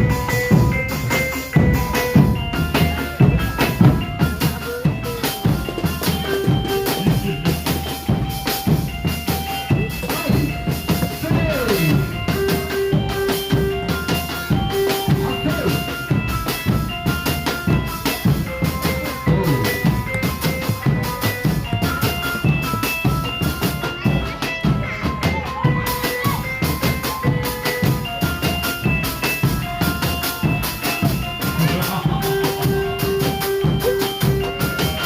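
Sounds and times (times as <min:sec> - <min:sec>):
music with drum-kit beat: 0:00.0 - 0:35.0.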